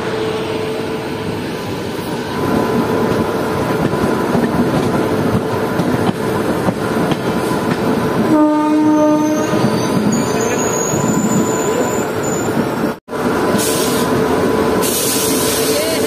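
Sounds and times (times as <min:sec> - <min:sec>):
train rumbling and rattling on track: 0:00.0 - 0:16.0.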